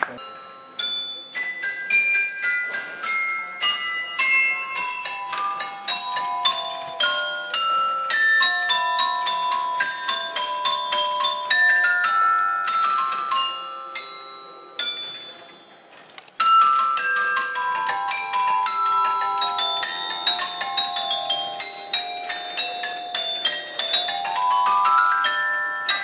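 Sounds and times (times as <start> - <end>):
keyboard chime bell melody: 0.0 - 15.8, 16.4 - 26.0.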